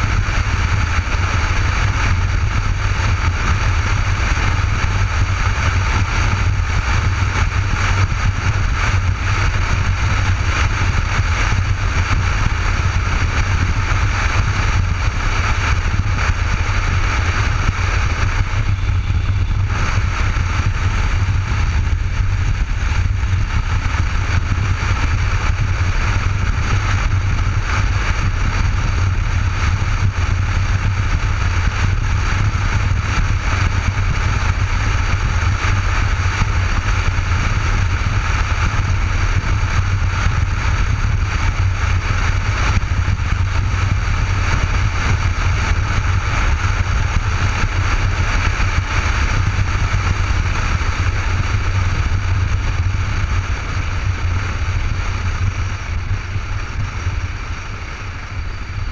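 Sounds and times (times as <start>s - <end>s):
motorcycle engine drone: 0.0s - 58.9s
wind and road rush: 0.0s - 58.9s.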